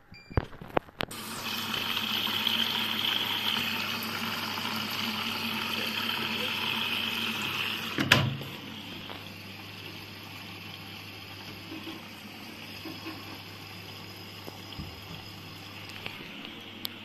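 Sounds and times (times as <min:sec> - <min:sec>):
washing machine humming: 0:01.0 - 0:17.0
water trickling: 0:01.2 - 0:16.8.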